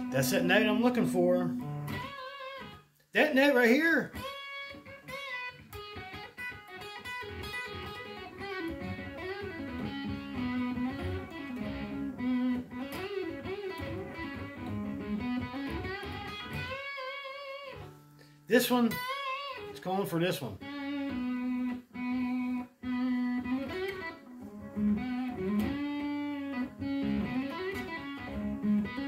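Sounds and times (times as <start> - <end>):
electric guitar blues lead: 0.0 - 29.0.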